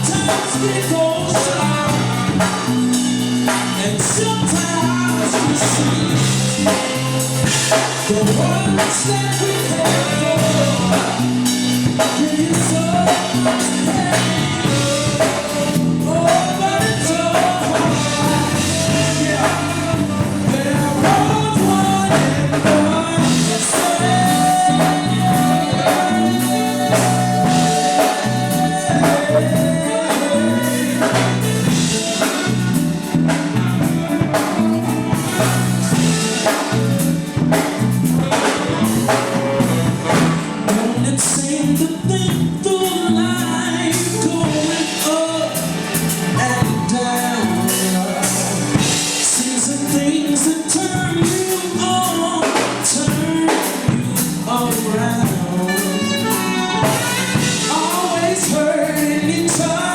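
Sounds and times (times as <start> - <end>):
live band playing soul: 0.0 - 59.9
person singing: 0.0 - 59.9.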